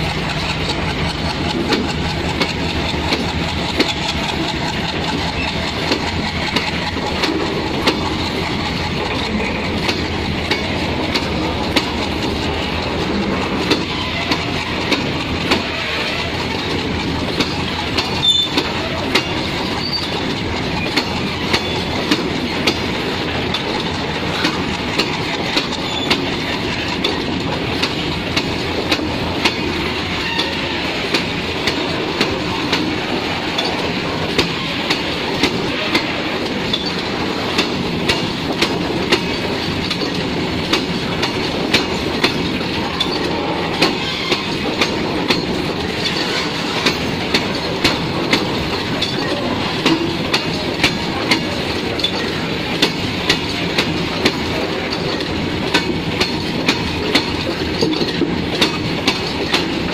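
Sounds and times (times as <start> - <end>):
freight wagons rumbling and rattling: 0.0 - 59.9
wheels clicking over rail joints: 0.0 - 59.9.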